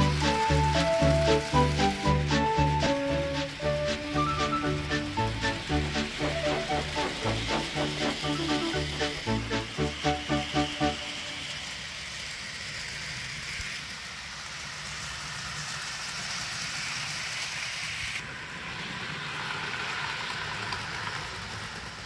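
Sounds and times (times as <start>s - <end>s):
model train motor hum: 0.0s - 22.0s
wheels rattling on track: 0.0s - 22.0s.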